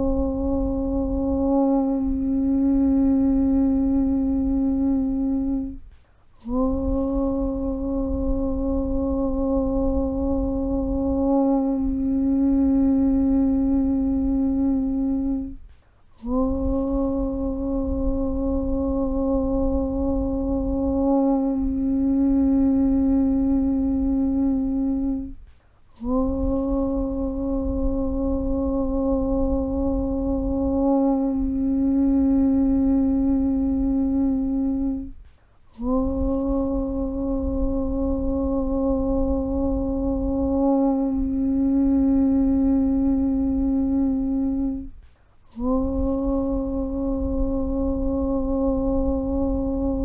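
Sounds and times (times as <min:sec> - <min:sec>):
person humming a low chant: 0:00.0 - 0:50.0.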